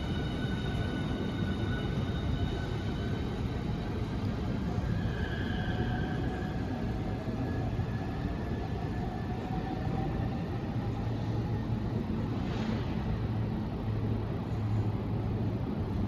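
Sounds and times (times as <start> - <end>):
electric train rumbling: 0.0 - 16.0
faint train whine: 0.0 - 16.0.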